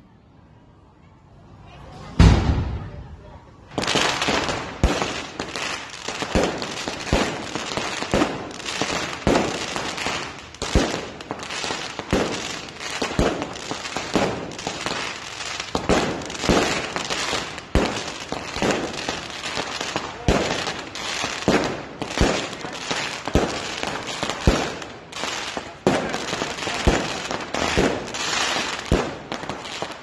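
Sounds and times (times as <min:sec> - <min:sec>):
fireworks bangs: 0:02.2 - 0:30.0
fireworks crackling: 0:03.7 - 0:30.0.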